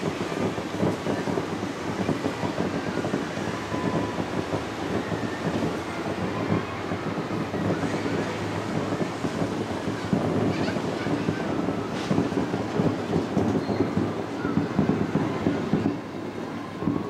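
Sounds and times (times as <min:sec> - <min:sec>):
distant fireworks booming: 0:00.0 - 0:17.0.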